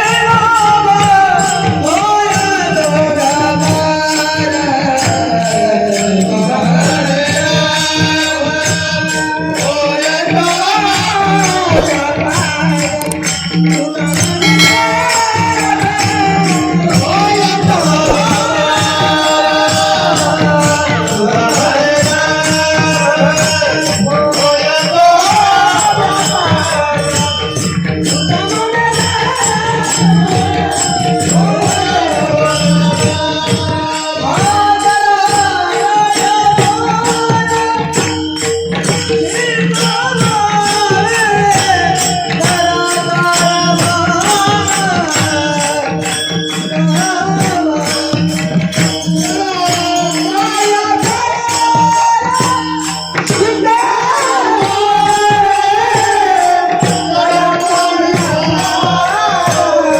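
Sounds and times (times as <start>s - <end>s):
jingling hand percussion: 0.0s - 59.9s
person singing: 0.0s - 59.9s
held accompanying tones: 6.3s - 59.9s.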